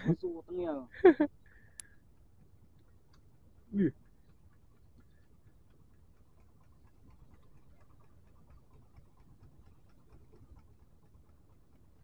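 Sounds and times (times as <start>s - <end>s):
faint irregular ticking: 1.4s - 12.0s.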